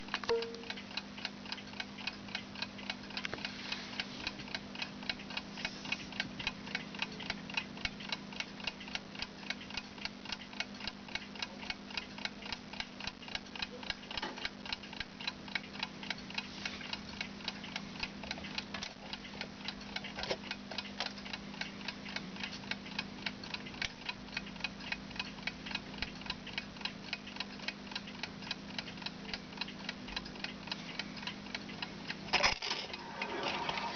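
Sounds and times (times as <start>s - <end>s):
alarm clock ticking: 0.1s - 3.2s, 4.3s - 5.5s, 6.2s - 33.9s.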